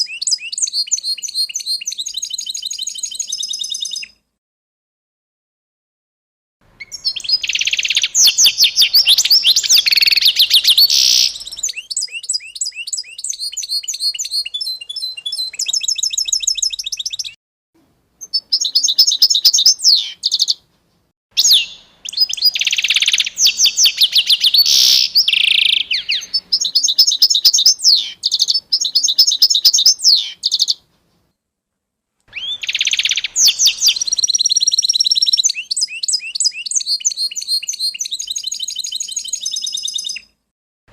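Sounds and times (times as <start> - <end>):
small songbirds chirping: 0.0 - 4.2, 6.7 - 17.4, 18.2 - 20.6, 21.4 - 30.9, 32.3 - 40.4.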